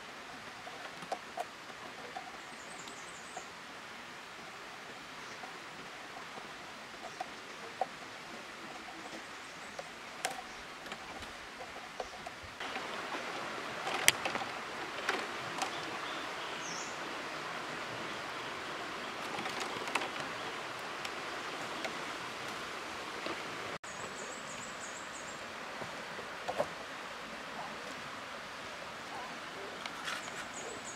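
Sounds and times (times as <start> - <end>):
stream water flowing: 0.0 - 30.9.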